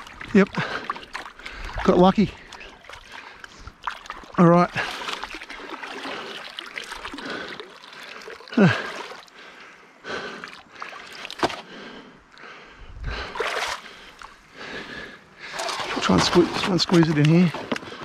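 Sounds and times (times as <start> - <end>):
person wading through water: 0.0 - 18.0.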